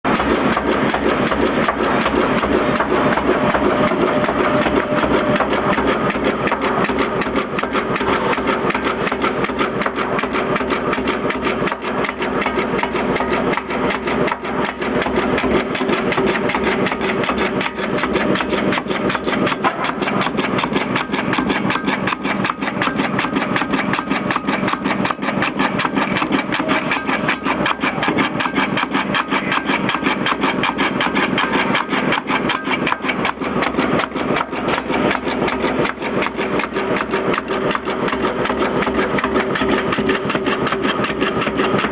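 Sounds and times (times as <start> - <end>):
cutting machine rapid clatter: 0.1 - 41.9.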